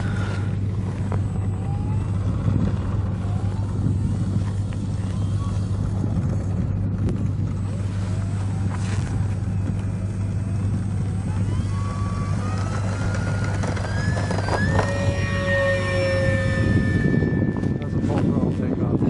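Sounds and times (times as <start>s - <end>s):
electric motor and propeller whine: 0.0s - 19.0s
low hum: 0.0s - 19.0s.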